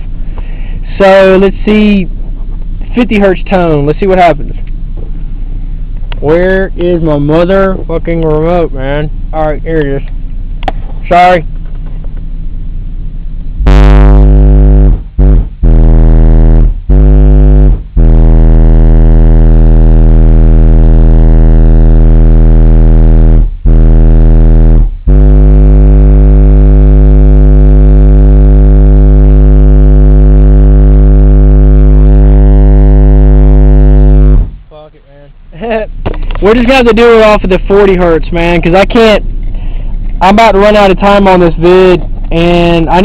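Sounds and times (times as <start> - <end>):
distorted bass test tone: 0.0 - 43.0.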